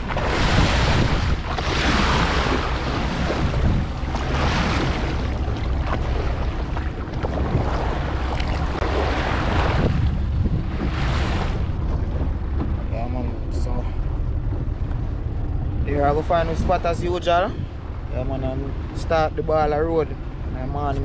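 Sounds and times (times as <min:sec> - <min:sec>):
sea water splashing and rushing: 0:00.0 - 0:21.0
wind rumble on microphone: 0:00.0 - 0:21.0.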